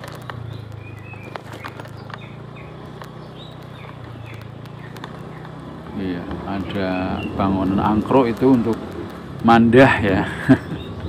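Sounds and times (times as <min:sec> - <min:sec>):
bike clicks and knocks over bumps: 0:00.0 - 0:11.0
motorcycle engine running: 0:00.0 - 0:11.0.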